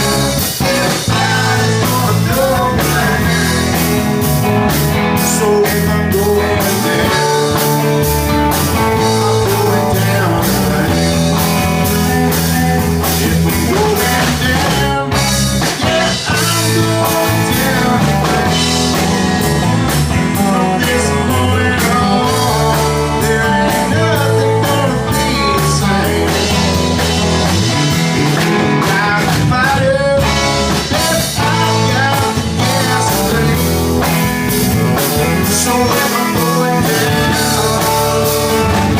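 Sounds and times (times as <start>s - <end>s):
bass guitar: 0.0s - 38.9s
electric guitar lead: 0.0s - 38.9s.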